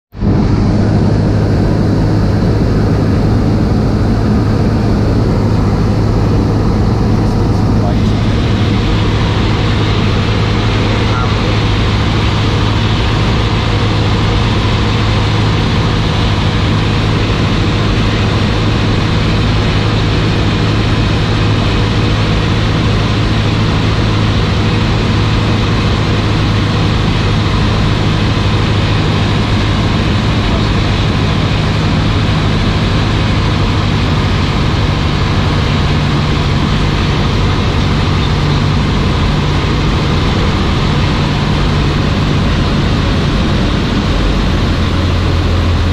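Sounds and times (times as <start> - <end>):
airplane engine and propeller droning: 0.1 - 45.9.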